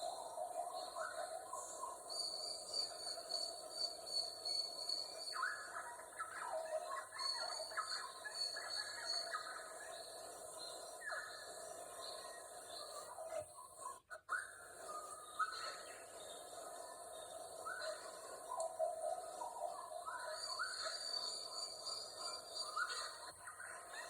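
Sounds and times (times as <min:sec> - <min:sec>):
rapid repeated bird calls: 0:00.0 - 0:24.0.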